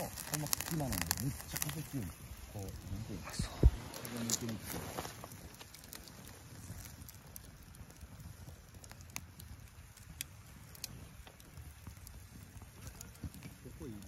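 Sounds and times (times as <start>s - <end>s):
sharp crackles and clicks: 0.0s - 14.0s
wind rumbling: 0.0s - 14.0s.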